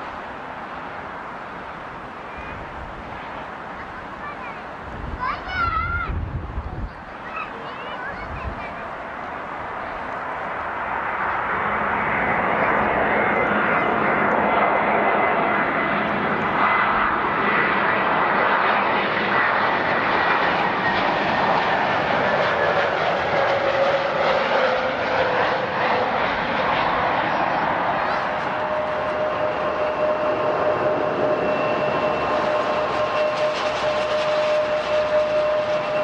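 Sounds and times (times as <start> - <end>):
jet engines running: 0.0 - 36.0.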